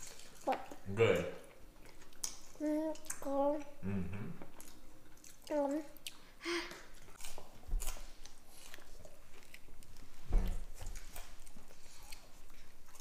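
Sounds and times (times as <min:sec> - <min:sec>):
child chewing pizza: 0:00.0 - 0:13.0.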